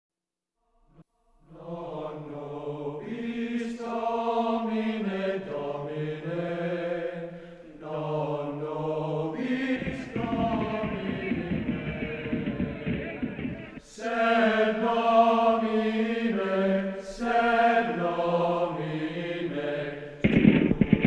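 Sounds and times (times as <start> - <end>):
low voices chanting: 1.5 - 20.2.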